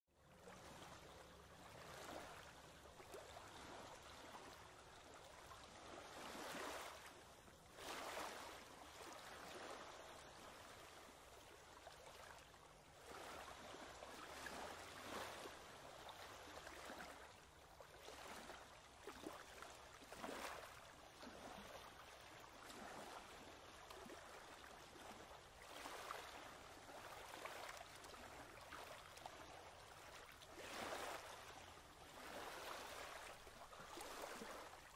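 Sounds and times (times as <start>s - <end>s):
rush of moving water: 0.3s - 34.9s.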